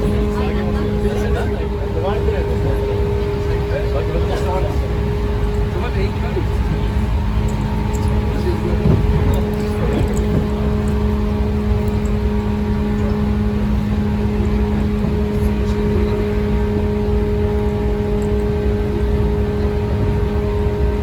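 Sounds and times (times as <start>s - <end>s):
steady electric hum: 0.0s - 21.0s
train wheels rumbling on rail: 0.0s - 21.0s.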